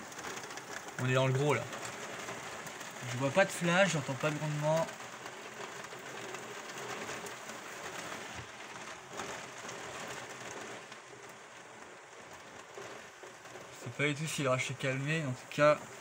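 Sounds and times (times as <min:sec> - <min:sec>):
heavy rain on window glass: 0:00.0 - 0:16.0.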